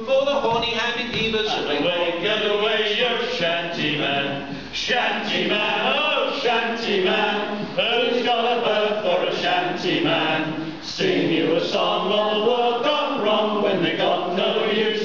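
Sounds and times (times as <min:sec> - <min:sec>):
men singing in chorus: 0:01.6 - 0:15.0.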